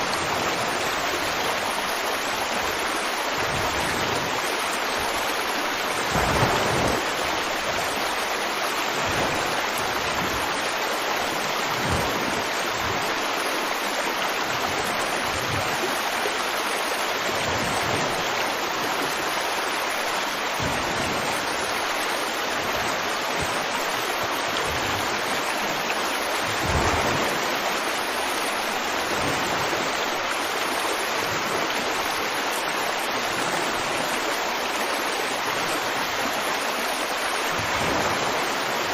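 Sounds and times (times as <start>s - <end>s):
low water gurgle: 0.0s - 38.9s
river water flowing: 0.0s - 38.9s.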